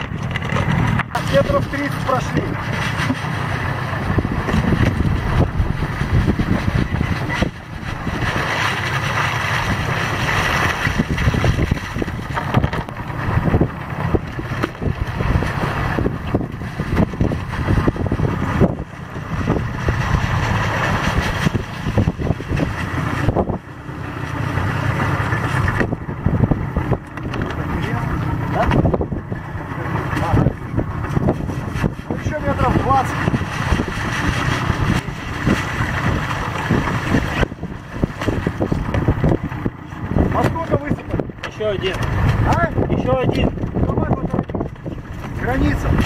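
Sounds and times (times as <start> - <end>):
boat engine rumbling: 0.0 - 46.0
wind buffeting microphone: 0.0 - 46.0.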